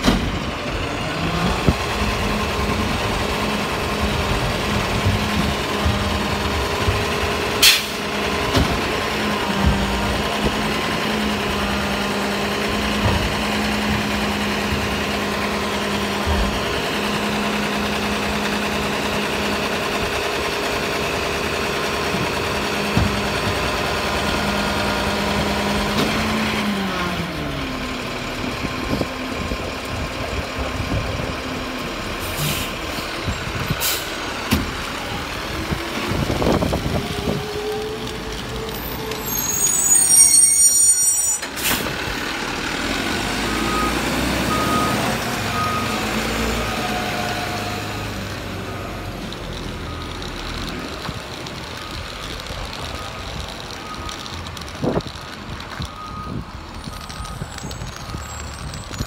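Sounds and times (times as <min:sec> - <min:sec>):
garbage truck engine humming: 0:00.0 - 0:59.0.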